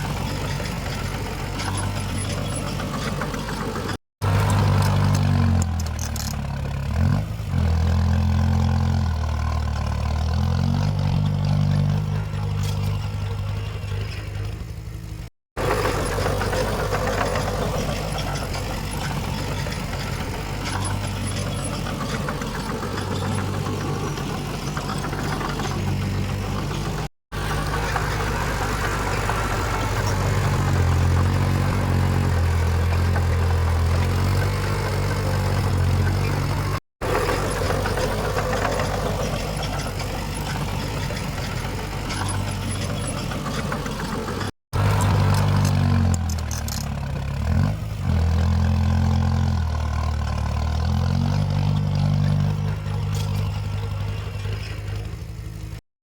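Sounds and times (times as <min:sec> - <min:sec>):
heavy diesel engines revving: 0:00.0 - 0:55.8.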